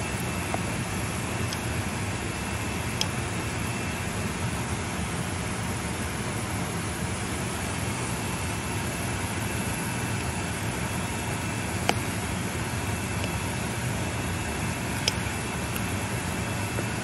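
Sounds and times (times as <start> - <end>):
soup boiling with steady hiss: 0.0 - 17.0.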